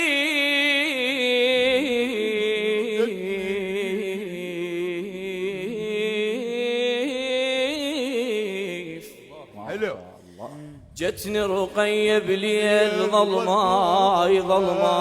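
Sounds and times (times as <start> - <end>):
man singing melismatic lament: 0.0 - 9.6, 10.5 - 15.0.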